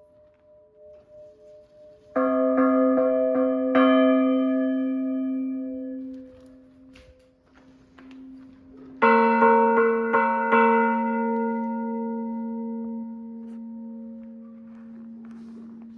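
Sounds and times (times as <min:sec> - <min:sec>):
church bell struck by hammer: 0:00.0 - 0:15.9
soft bell hum: 0:00.0 - 0:15.9.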